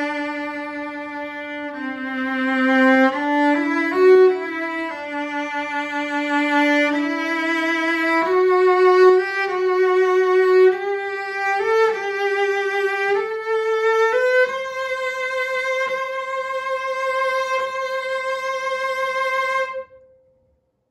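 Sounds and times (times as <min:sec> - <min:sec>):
bowed cello notes: 0:00.0 - 0:20.1.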